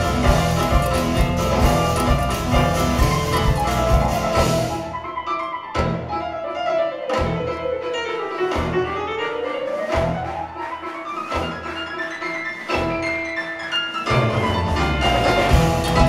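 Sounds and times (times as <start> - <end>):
jazz-funk band playing: 0.0 - 16.0.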